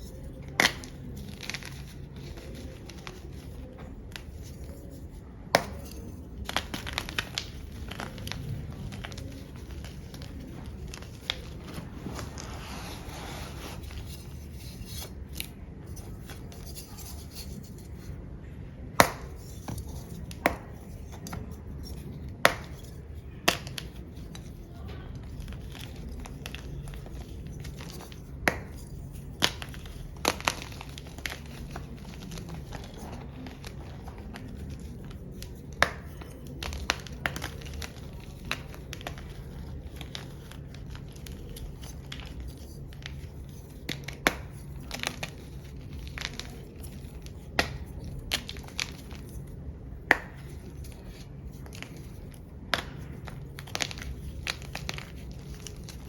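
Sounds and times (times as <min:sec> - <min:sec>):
chalk crunching and cracking: 0:00.0 - 0:18.2, 0:18.9 - 0:56.0.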